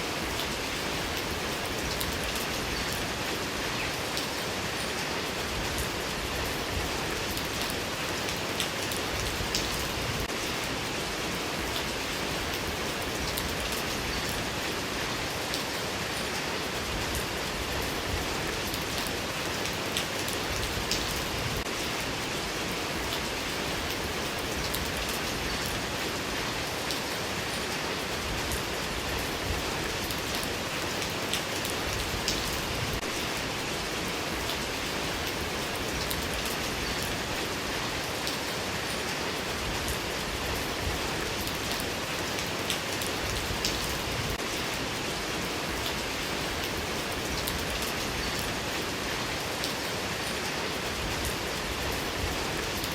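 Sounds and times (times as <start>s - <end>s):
steady rain hiss: 0.0s - 52.9s
raindrops ticking on surface: 0.1s - 52.9s.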